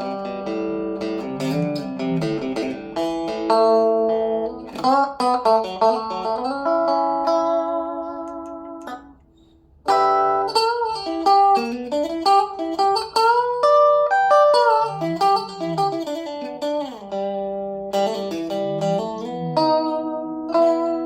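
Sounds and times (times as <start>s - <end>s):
electric guitar through amplifier: 0.0s - 21.0s.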